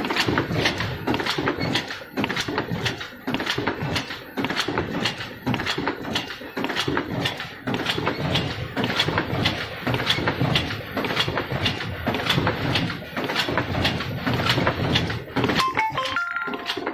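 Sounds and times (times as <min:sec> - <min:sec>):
sharp machine clacks: 0:00.0 - 0:16.9.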